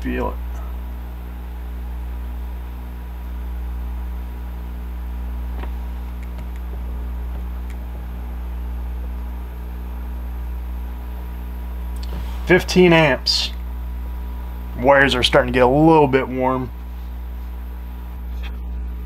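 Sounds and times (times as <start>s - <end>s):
cooling fan running: 0.0s - 19.0s.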